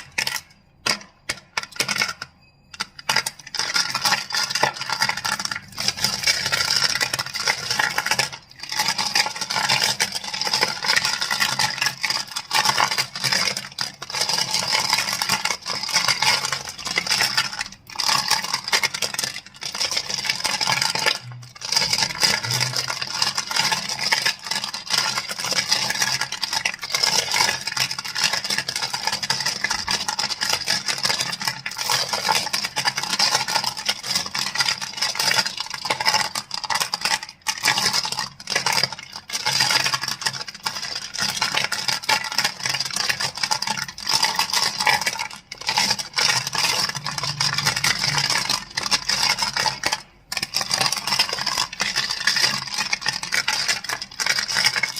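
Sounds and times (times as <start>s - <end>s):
crystals clicking together: 0.9s - 19.1s, 19.7s - 54.9s.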